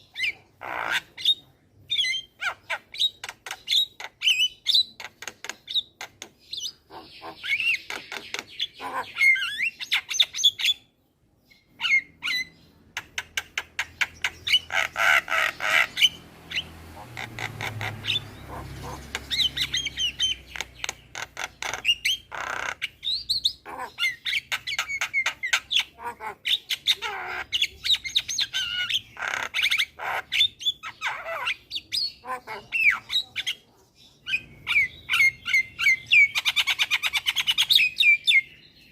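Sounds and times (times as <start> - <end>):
myna bird chattering song: 0.0 - 38.9.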